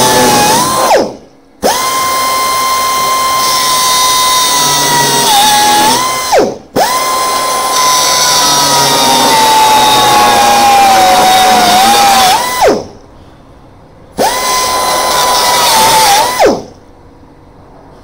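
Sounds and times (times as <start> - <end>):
pneumatic grinder whining: 0.0 - 13.0, 14.2 - 16.8.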